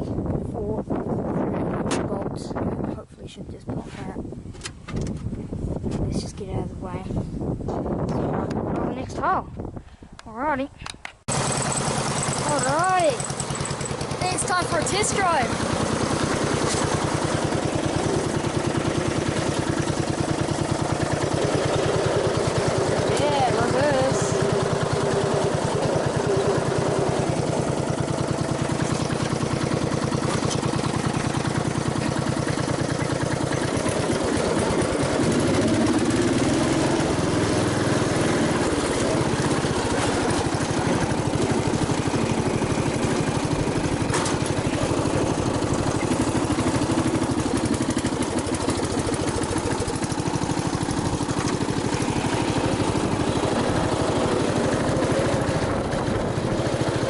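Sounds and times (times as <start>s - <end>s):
ride-on mower engine running: 11.3s - 57.0s.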